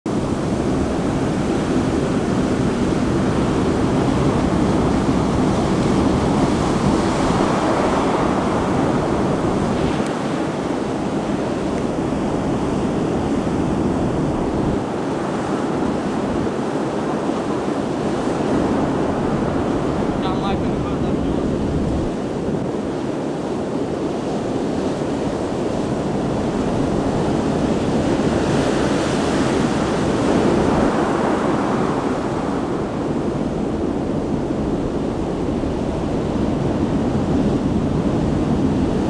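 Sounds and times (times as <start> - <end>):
waves breaking: 0.1 - 39.0
wind buffeting microphone: 0.1 - 39.0.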